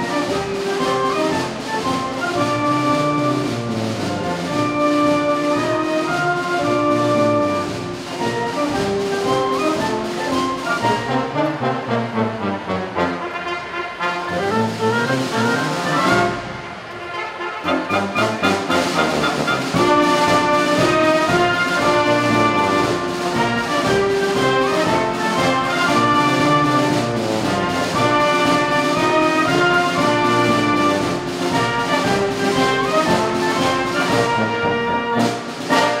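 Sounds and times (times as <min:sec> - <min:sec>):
orchestral music with brass: 0:00.0 - 0:36.0.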